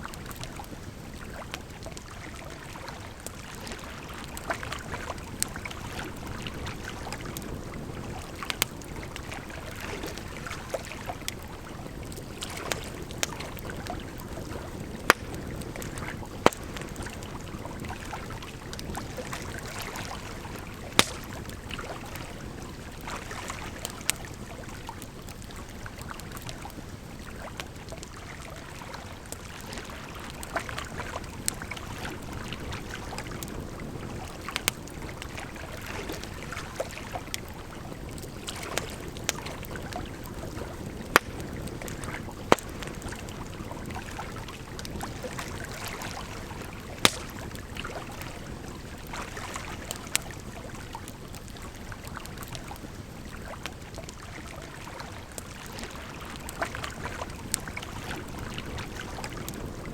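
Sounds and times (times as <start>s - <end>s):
flowing water: 0.0s - 59.9s
campfire crackling and popping: 0.1s - 59.9s.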